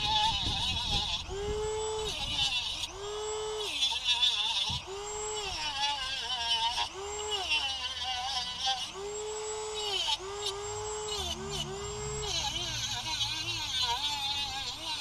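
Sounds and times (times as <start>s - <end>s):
rotary tool grinding metal: 0.0s - 15.0s.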